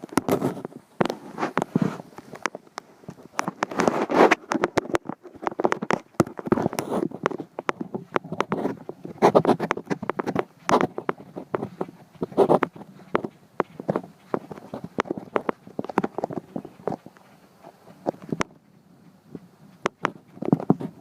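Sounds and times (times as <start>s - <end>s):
sharp clicks and scrapes: 0.0s - 18.6s, 19.4s - 21.0s.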